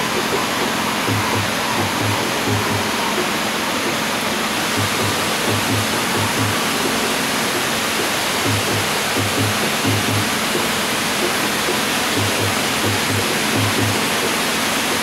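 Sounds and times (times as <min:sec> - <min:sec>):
flowing water rushing: 0:00.0 - 0:15.0
low drumbeats in music: 0:00.0 - 0:15.0.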